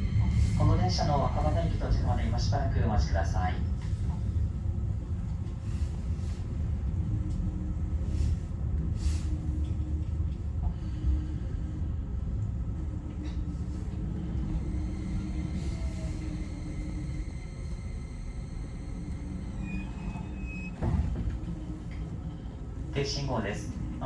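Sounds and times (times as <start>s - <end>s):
train cabin rumble and hum: 0.0s - 24.0s.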